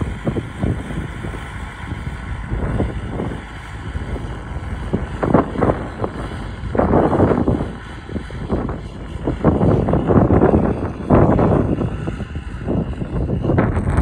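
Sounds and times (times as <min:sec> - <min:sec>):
tractor engine running: 0:00.0 - 0:14.0
wind buffeting microphone: 0:00.0 - 0:14.0.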